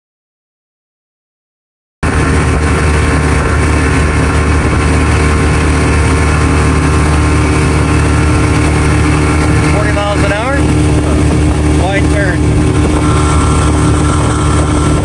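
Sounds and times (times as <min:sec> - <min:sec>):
motorboat engine running: 0:02.0 - 0:15.0
rush of wind and water: 0:02.0 - 0:15.0.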